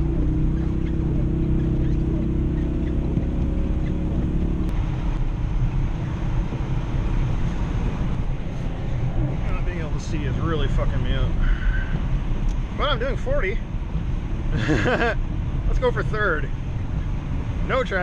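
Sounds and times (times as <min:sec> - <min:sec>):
car engine pulling: 0:00.0 - 0:18.0.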